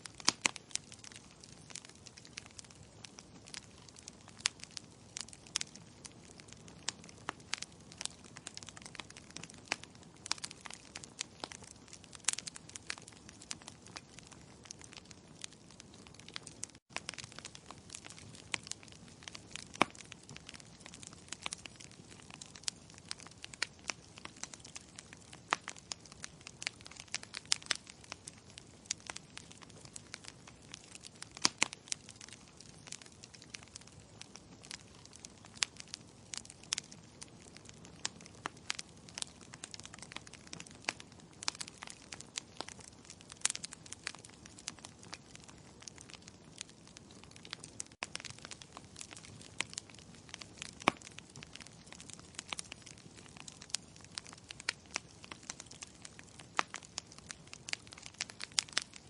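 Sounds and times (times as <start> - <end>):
sharp pops of burning wood: 0.0 - 59.0
wood logs crackling in fireplace: 0.0 - 59.0.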